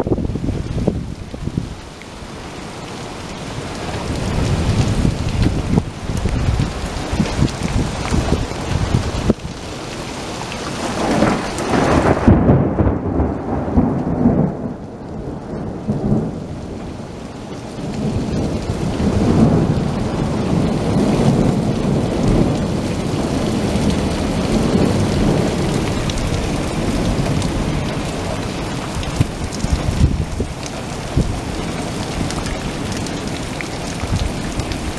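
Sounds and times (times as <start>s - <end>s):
gusting wind: 0.0s - 34.9s
heavy rain pouring: 0.0s - 34.9s
rumbling thunder: 4.1s - 9.4s, 10.8s - 17.2s, 17.8s - 34.9s.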